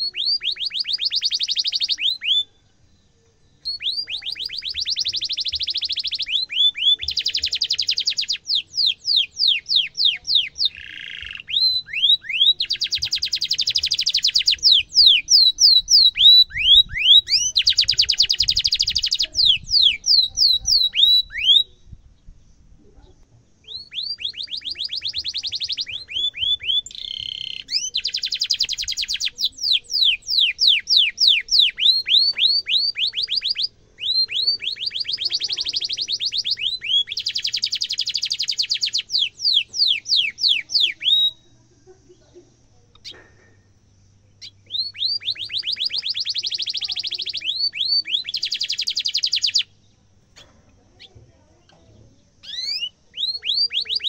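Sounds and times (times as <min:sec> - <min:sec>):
canary singing chirps and trills: 0:00.0 - 0:54.0.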